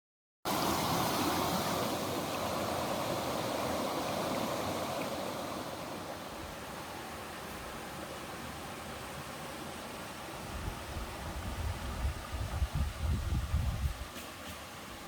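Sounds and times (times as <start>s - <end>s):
stream rushing over rocks: 0.5s - 13.2s.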